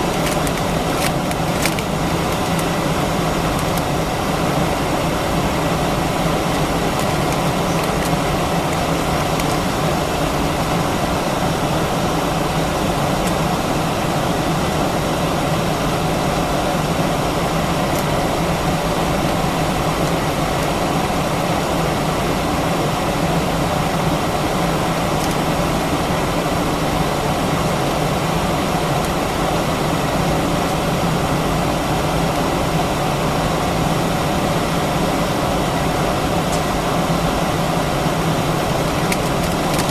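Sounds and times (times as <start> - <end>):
airplane cabin engine drone: 0.0 - 39.9
cabin air system hiss: 0.0 - 39.9.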